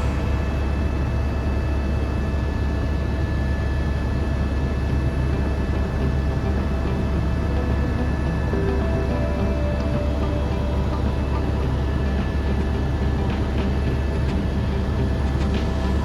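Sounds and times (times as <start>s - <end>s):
faint steady whine: 0.0s - 16.0s
helicopter rotor drone: 0.0s - 16.0s.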